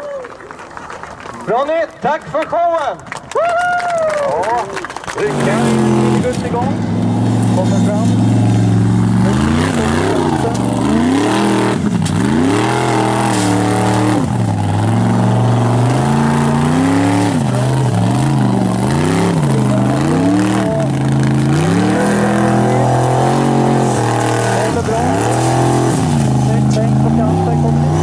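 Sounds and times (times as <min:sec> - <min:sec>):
car engine revving hard: 0:05.2 - 0:28.0.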